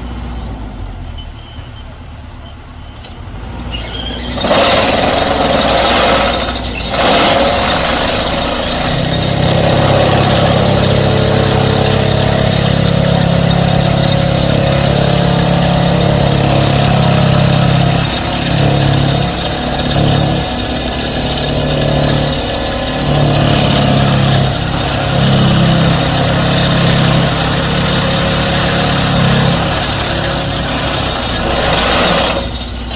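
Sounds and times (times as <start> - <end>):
diesel engine running: 0.0 - 32.9
vibro pile driver humming: 3.7 - 32.9.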